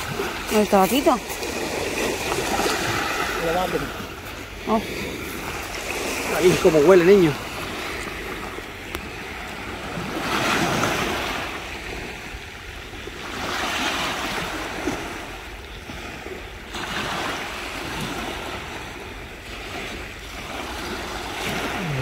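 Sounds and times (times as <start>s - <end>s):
surf breaking on a beach: 0.0s - 22.0s.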